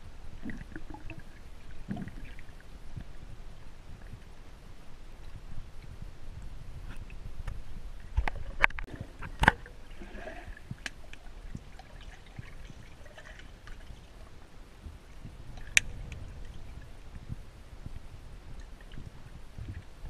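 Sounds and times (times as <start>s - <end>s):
underwater rumble of moving water: 0.0s - 20.0s.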